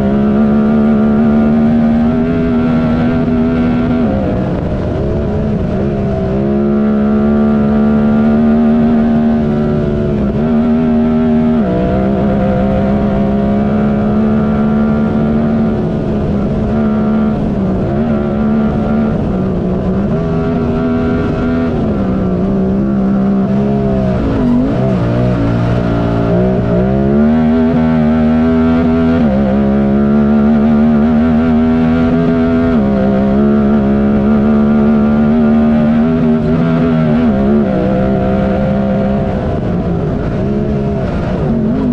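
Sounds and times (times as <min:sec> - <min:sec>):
utility vehicle engine running hard: 0:00.0 - 0:41.9.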